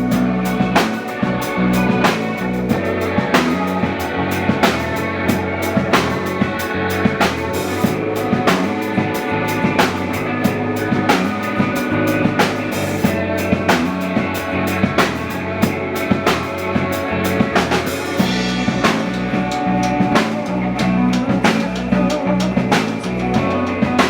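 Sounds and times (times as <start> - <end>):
band playing instrumental: 0.0 - 24.0
drum kit beat: 0.0 - 24.0.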